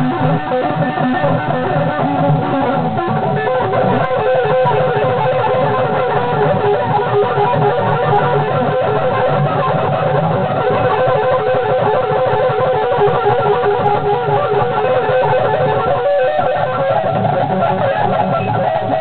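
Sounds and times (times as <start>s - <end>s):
electric guitar fast picked runs: 0.0s - 19.0s.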